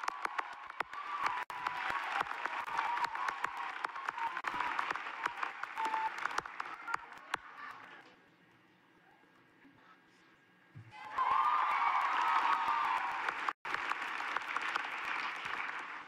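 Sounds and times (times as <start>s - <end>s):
large crowd applauding: 0.0s - 8.0s, 11.0s - 16.0s.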